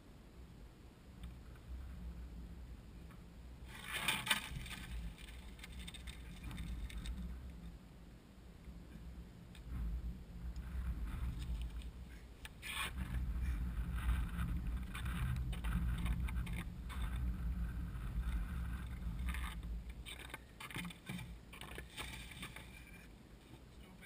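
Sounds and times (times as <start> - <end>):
wind rumble on microphone: 0.0 - 20.2.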